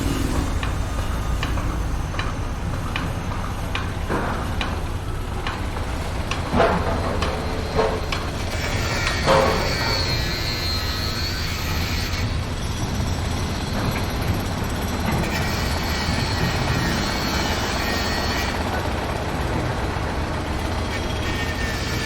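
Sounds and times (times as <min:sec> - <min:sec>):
construction machinery engine rumble: 0:00.0 - 0:22.0.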